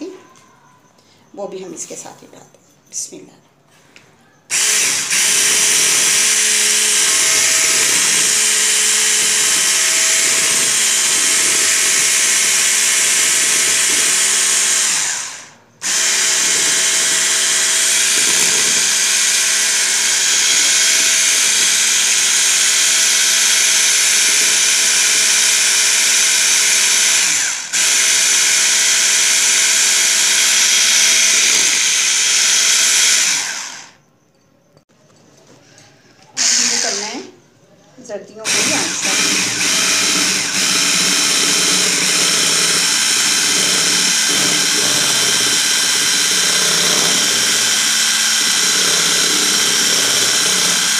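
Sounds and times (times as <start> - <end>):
electric hand mixer whisking: 4.5 - 33.9, 36.4 - 37.3, 38.4 - 50.9.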